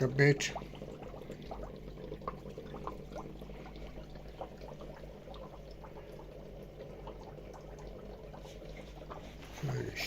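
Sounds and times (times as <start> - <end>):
pump humming: 0.0 - 10.0
water bubbling and trickling: 0.0 - 10.0.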